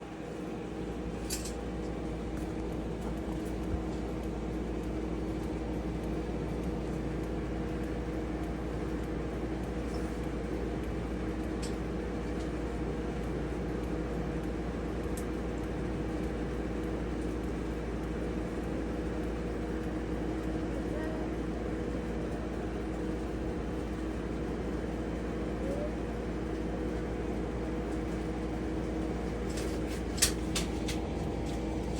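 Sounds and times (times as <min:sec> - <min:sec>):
electric fan humming: 0:00.0 - 0:31.9.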